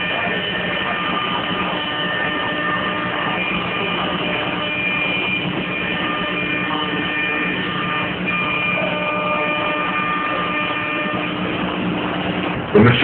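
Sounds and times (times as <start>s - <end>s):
router machining plywood: 0.0s - 12.8s.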